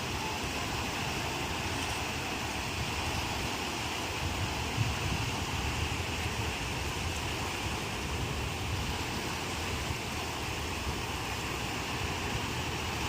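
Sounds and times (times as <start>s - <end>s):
waves breaking: 0.0s - 13.0s
wind on microphone: 0.0s - 13.0s.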